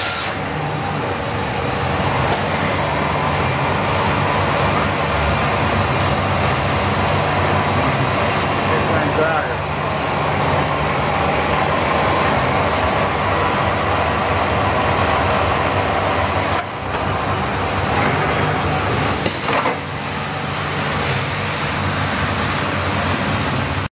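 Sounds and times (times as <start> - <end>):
machine hiss and motor hum: 0.0 - 23.9.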